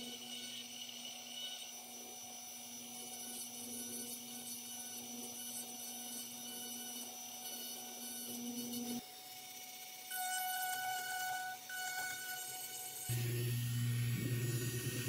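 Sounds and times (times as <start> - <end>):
carving bit grinding wood: 0.0 - 15.0
rotary tool whining: 0.0 - 15.0.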